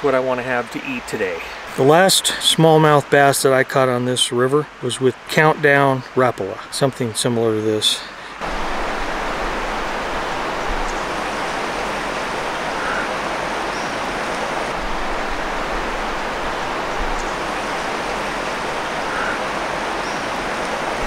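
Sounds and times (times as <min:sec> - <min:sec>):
river running over rocks: 0:00.0 - 0:21.0.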